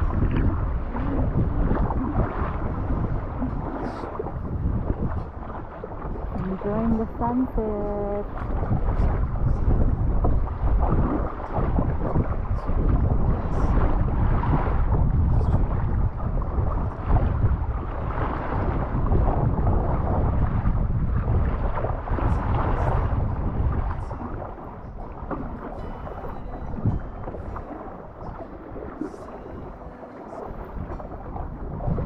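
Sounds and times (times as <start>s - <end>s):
water lapping around kayak: 0.0s - 32.0s
wind buffeting microphone: 0.0s - 32.0s.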